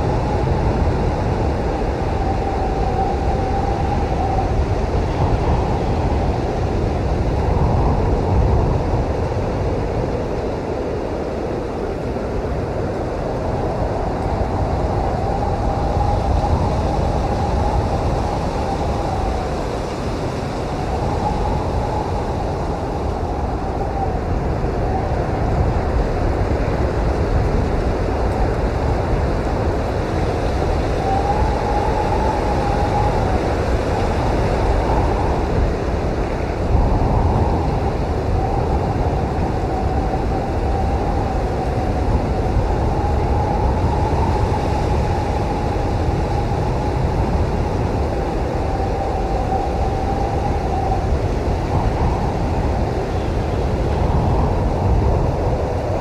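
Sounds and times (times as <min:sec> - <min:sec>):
blizzard wind rumbling: 0:00.0 - 0:56.0
whistling wind howl: 0:00.0 - 0:56.0.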